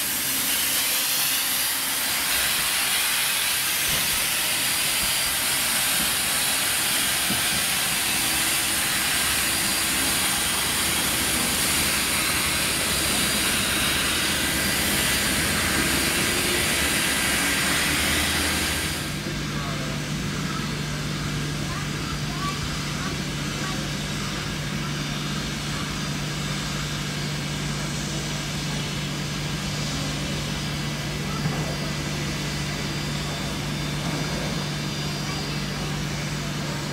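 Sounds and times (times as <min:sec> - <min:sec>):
steam locomotive hissing steam: 0:00.0 - 0:36.9.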